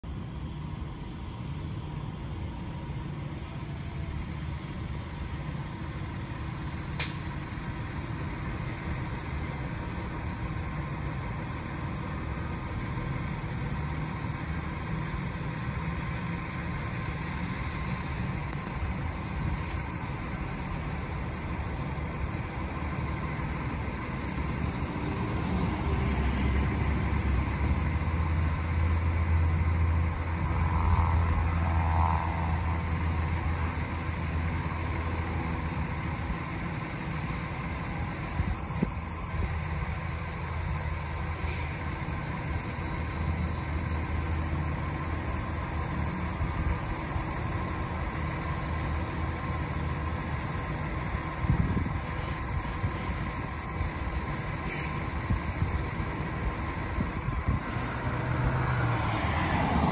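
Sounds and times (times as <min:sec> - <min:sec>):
diesel truck engine rumbling: 0:00.0 - 0:59.9.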